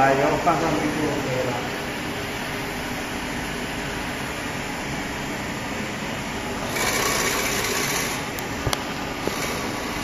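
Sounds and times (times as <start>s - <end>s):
machine humming: 0.0s - 10.0s
vibratory bowl feeder running: 0.0s - 10.0s.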